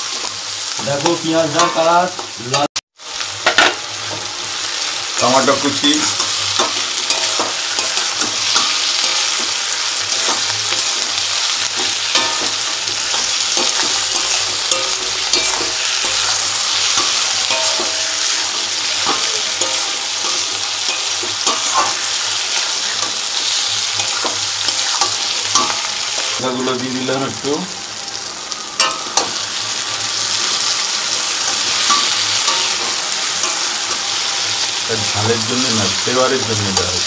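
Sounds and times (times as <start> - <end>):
onions sizzling in hot oil: 0.0 - 37.0.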